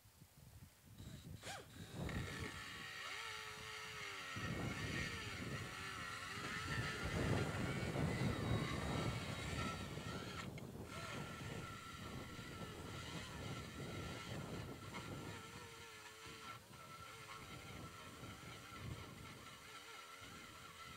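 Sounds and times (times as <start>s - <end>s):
die grinder cutting metal: 1.0s - 20.9s.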